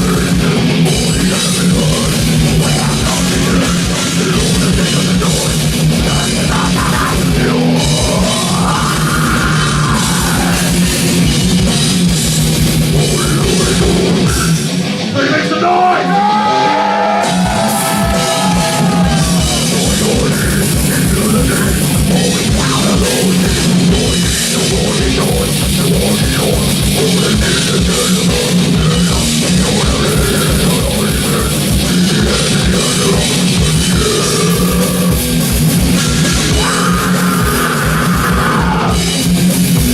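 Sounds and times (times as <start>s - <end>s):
distorted electric guitars: 0.0s - 39.9s
drum kit: 0.0s - 39.9s
metal band playing: 0.0s - 39.9s.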